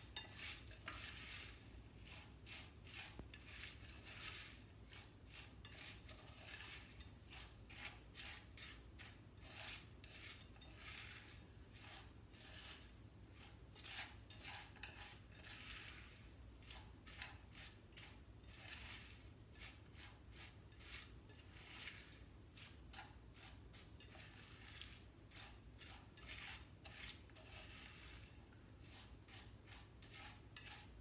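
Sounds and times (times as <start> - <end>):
utensil scraping metal saucepan: 0.0 - 31.0.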